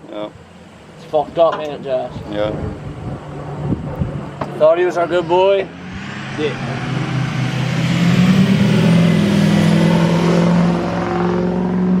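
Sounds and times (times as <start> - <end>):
high engine whine: 0.0 - 12.0.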